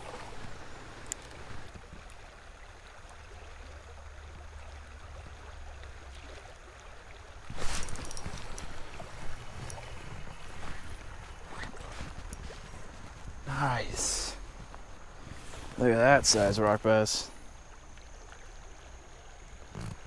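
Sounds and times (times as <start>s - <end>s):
creek water rushing over rapids: 0.0s - 20.0s.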